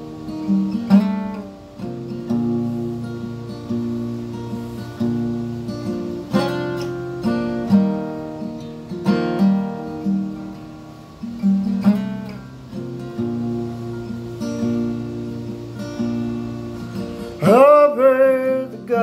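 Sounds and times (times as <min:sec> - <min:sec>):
electric guitar chords ringing: 0:00.0 - 0:19.0.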